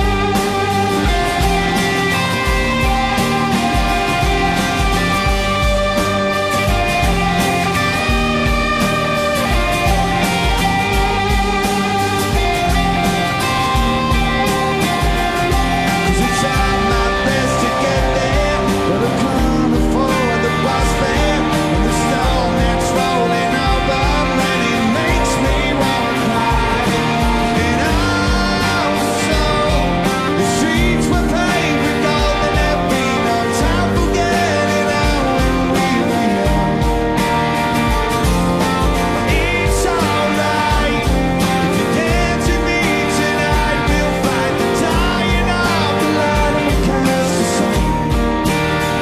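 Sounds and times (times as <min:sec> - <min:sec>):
live rock band playing: 0:00.0 - 0:49.0.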